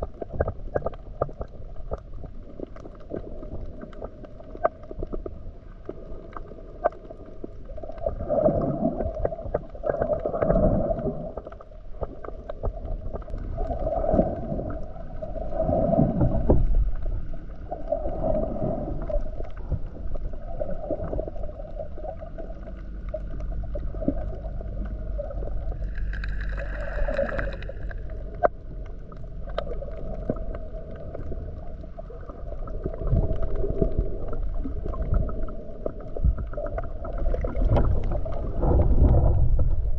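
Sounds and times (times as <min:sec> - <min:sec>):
underwater water sloshing: 0:00.0 - 0:39.9.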